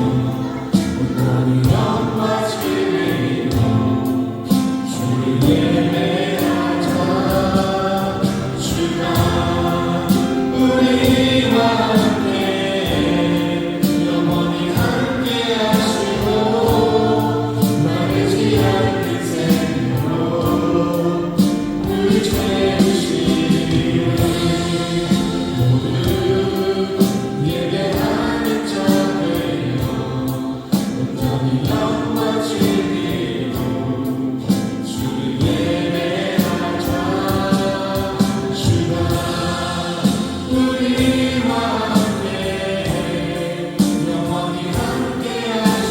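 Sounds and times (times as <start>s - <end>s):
choir singing gospel song: 0.0s - 45.9s
instrumental backing with beat: 0.0s - 45.9s.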